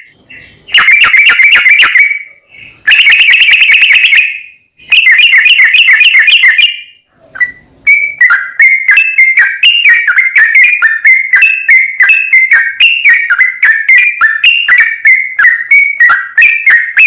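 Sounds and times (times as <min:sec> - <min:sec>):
bird chattering whistled song: 0:00.0 - 0:17.0.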